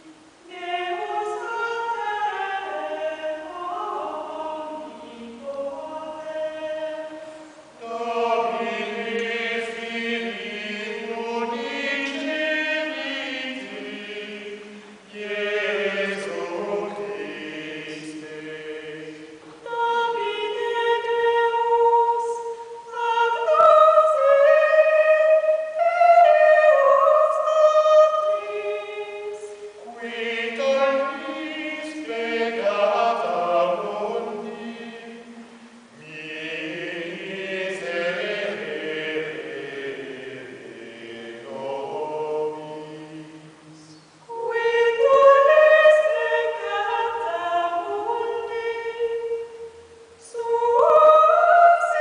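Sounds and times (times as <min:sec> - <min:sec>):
choir chanting a cappella: 0:00.0 - 0:52.0.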